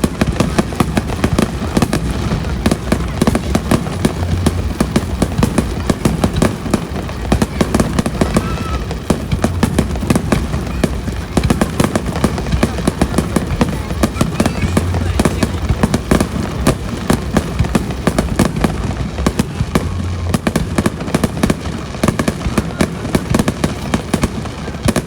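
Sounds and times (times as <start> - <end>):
fireworks bangs and crackles: 0.0 - 25.0
low rumble: 1.0 - 22.0.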